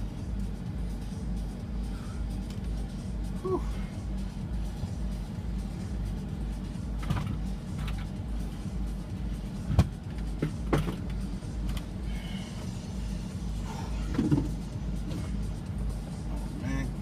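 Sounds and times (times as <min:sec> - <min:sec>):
low engine rumble in cab: 0:00.0 - 0:17.0.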